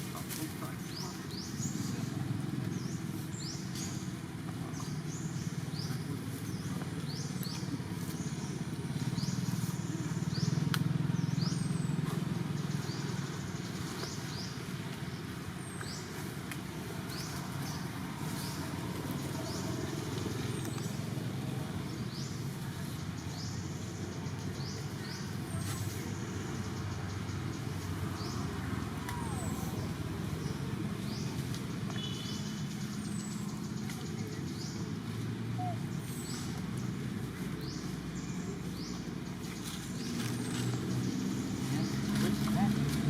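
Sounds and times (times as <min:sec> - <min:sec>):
low rumble of distant traffic: 0:00.0 - 0:43.0.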